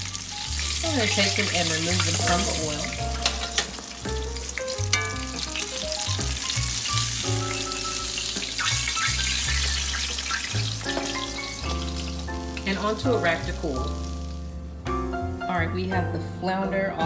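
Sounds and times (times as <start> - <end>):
hot oil sizzling and crackling: 0.0 - 15.4
background music: 0.0 - 17.0.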